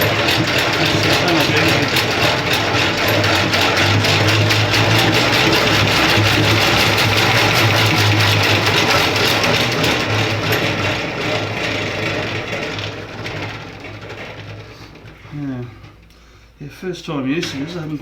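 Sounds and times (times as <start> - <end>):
honey extractor motor humming: 0.0 - 16.6
whirring rattle of spinning drum: 0.0 - 18.0.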